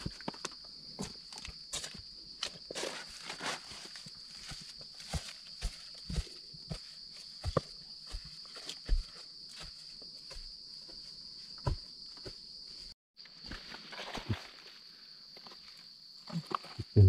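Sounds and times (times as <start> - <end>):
footsteps on soil and dry leaves: 0.0 - 14.8.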